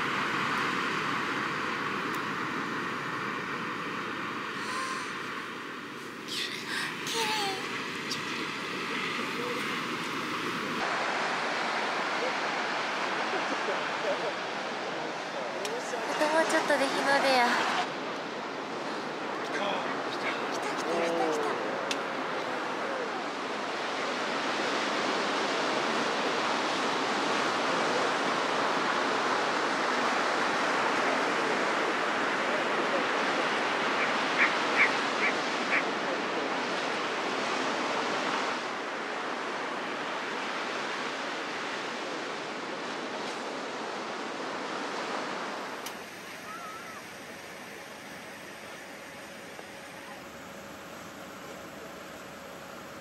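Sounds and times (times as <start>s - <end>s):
waves washing onto beach: 0.0s - 53.0s.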